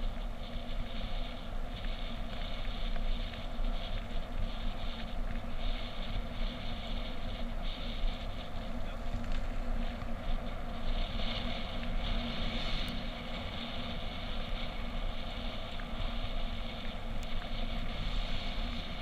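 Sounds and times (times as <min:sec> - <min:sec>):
vehicle engine drone: 0:00.0 - 0:19.0
wind noise: 0:00.0 - 0:19.0.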